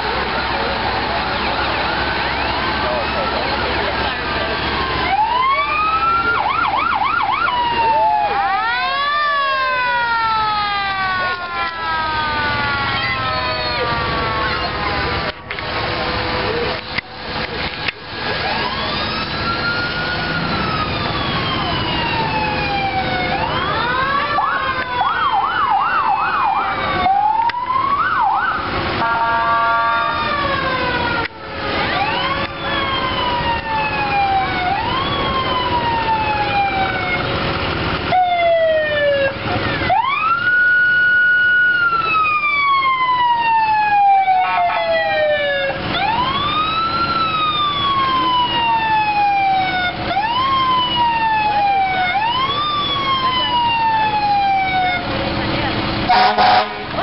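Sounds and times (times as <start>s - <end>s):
fire truck sirens wailing: 0.0s - 57.0s.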